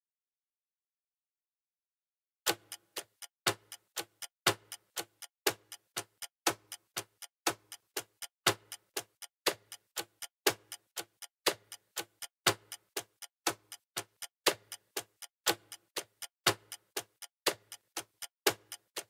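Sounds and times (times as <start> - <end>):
clock ticking: 2.5 - 19.0.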